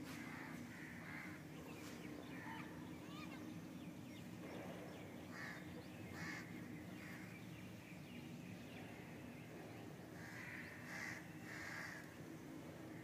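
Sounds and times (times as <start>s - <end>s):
birds calling: 0.0s - 13.0s
low steady hum: 0.0s - 13.0s
faint bird chirps: 1.6s - 12.3s.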